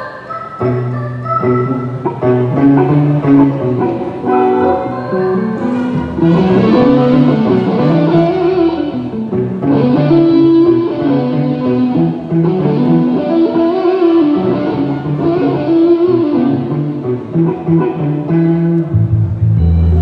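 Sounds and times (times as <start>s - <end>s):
electric guitar band music: 0.0s - 20.0s.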